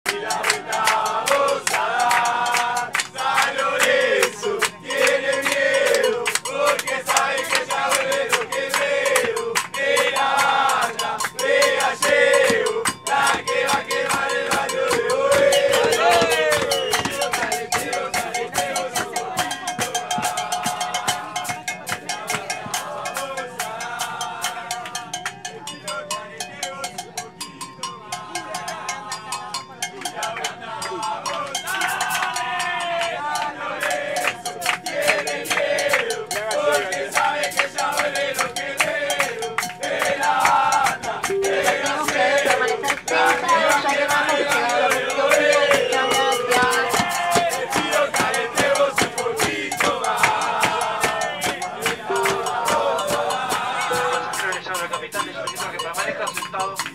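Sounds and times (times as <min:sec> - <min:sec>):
men chanting together: 0:00.1 - 0:25.0, 0:30.1 - 0:56.4
rapid rhythmic clapping and banging: 0:00.1 - 0:26.0, 0:29.9 - 0:56.9
fast percussive beat: 0:00.1 - 0:26.2, 0:33.9 - 0:56.9.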